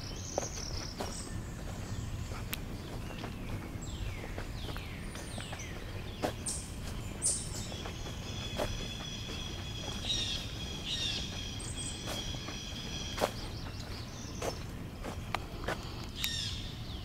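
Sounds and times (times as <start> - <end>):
high whistled bird song: 0.0 - 14.6
outdoor background hiss: 0.0 - 17.0
songbirds chirping and whistling: 0.0 - 17.0.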